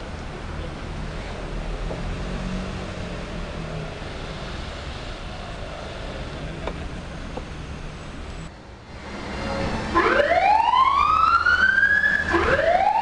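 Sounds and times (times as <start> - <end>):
hum of city traffic: 0.0 - 13.0.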